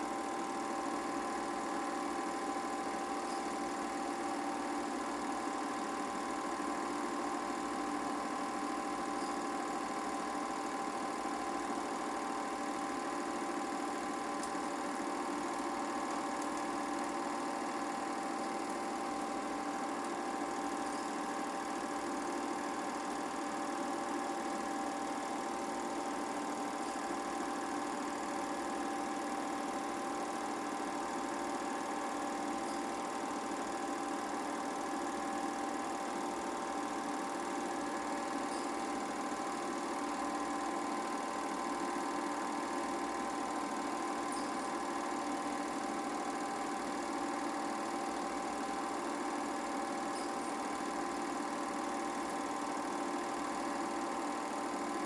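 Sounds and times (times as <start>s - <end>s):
film projector whirring: 0.0s - 55.0s.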